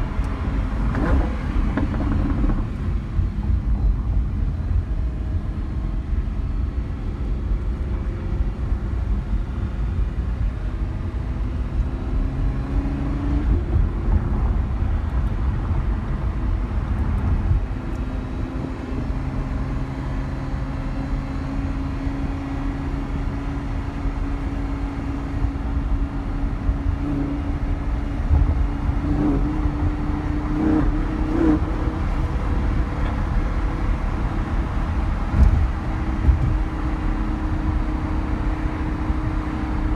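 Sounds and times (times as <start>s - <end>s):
car engine running: 0.0s - 39.9s
low road rumble: 0.0s - 39.9s.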